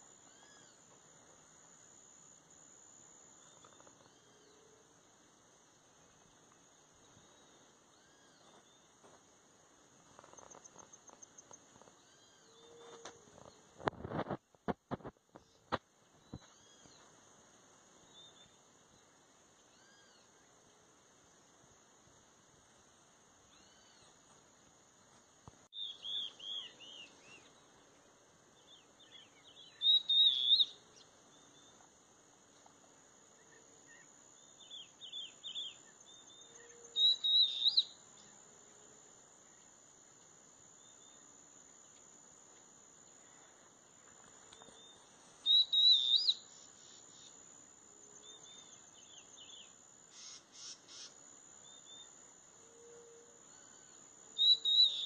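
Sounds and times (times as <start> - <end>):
steady high-pitched whine: 0.0 - 55.0.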